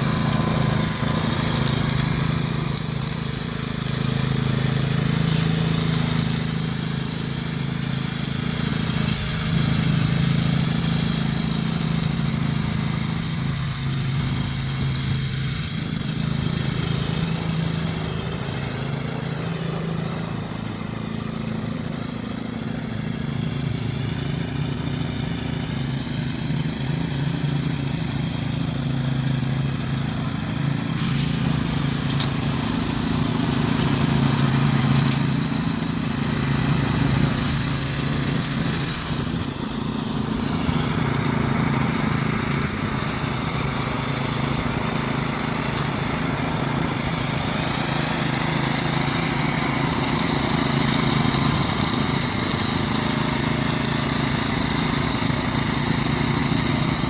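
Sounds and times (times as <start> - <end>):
hiss of cutting and blowing: 0.0 - 57.0
riding mower engine drone: 0.0 - 57.0.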